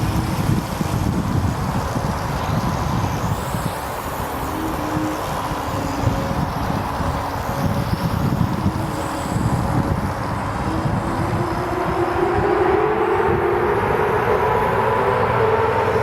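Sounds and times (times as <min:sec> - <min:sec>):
rising whine: 0:00.0 - 0:16.0
wind buffeting microphone: 0:00.0 - 0:16.0.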